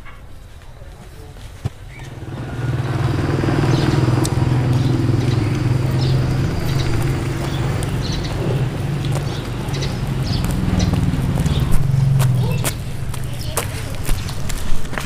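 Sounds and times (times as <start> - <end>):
small engine humming: 2.0 - 14.7.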